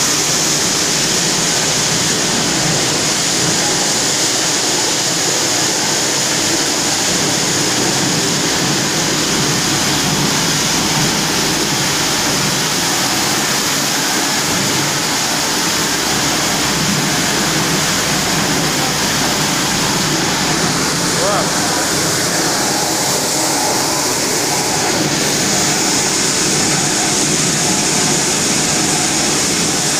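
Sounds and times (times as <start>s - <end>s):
machinery hiss and hum: 0.0s - 29.9s.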